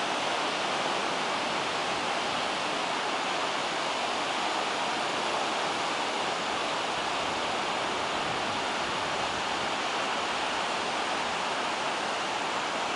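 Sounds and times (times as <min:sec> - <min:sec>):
ocean surf on a beach: 0:00.0 - 0:12.9.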